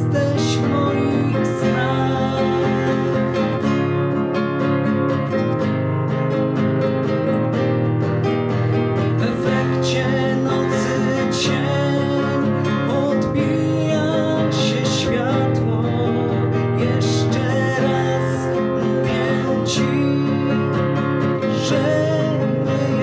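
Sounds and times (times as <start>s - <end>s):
acoustic guitar strummed: 0.0s - 23.0s.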